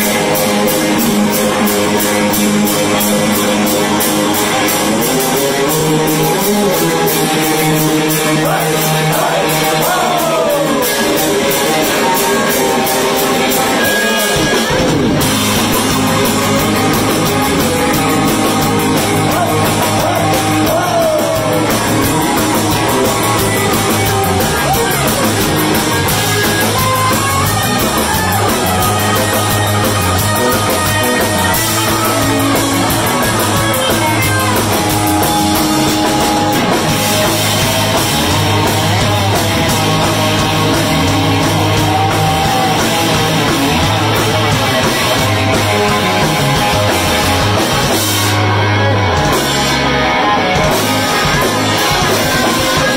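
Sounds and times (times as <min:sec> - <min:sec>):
bass guitar: 0:00.0 - 0:52.9
drum kit: 0:00.0 - 0:52.9
electric guitar lead with bends: 0:00.0 - 0:52.9.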